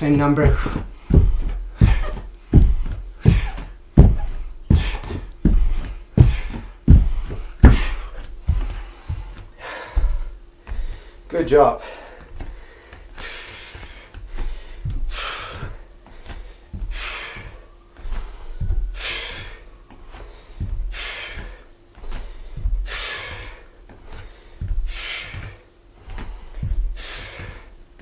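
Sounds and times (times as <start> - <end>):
bare feet thudding on wooden floor: 0.0 - 28.0
man breathing hard: 0.0 - 28.0.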